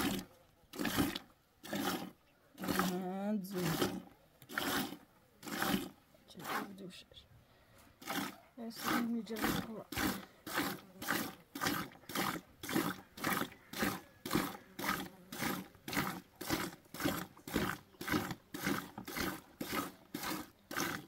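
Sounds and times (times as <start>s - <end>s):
milk squirting into a pail: 0.0s - 6.8s, 8.0s - 21.0s.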